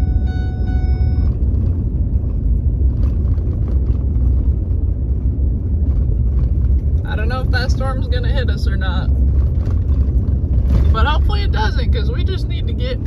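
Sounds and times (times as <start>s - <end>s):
vehicle rumble from inside cab: 0.0s - 13.0s.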